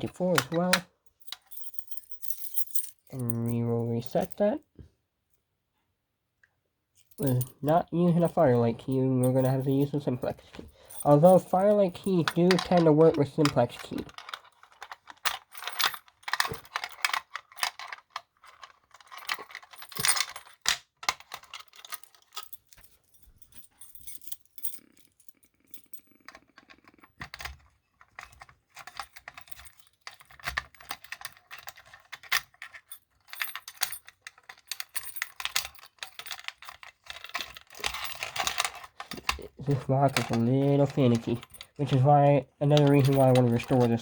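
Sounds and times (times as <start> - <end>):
key rattling in a lock: 0.0 - 4.5, 7.1 - 44.0
keys jangling on a ring: 1.2 - 4.5, 7.0 - 20.6, 21.4 - 27.5, 28.2 - 41.8, 42.6 - 44.0.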